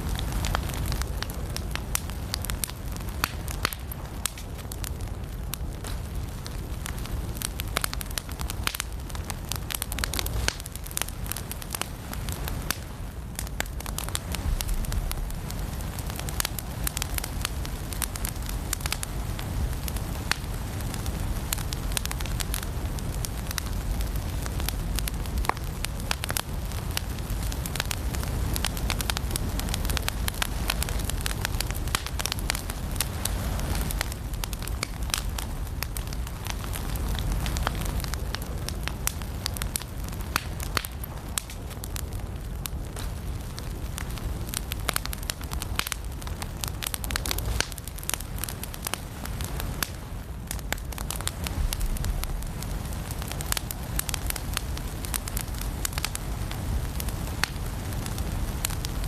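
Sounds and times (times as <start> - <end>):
firewood crackling and popping: 0.0 - 59.0
flame rumbling: 0.0 - 59.0.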